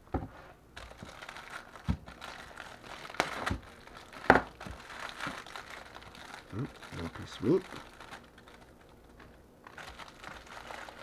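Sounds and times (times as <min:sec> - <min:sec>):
plastic wrapper crinkling: 0:00.8 - 0:11.0.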